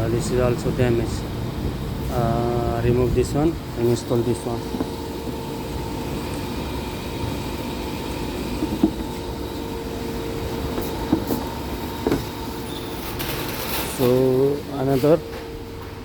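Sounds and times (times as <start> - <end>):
mechanical hum with held tone: 0.0 - 16.0.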